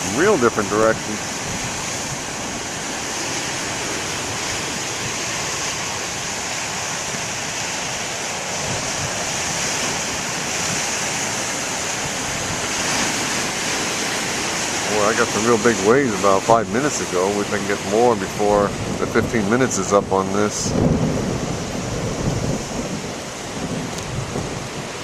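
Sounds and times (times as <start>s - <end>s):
surf breaking on shore: 0.0s - 25.0s
wind buffeting microphone: 0.0s - 25.0s.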